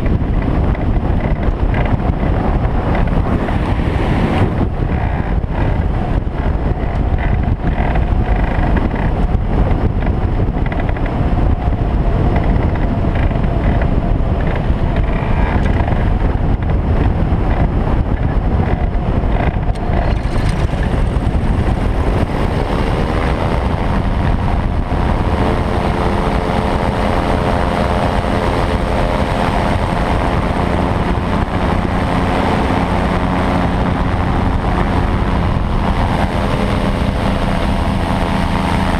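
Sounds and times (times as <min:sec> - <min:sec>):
small engine running: 0:00.0 - 0:11.1, 0:17.4 - 0:38.9
airflow rushing past cockpit: 0:00.0 - 0:38.9.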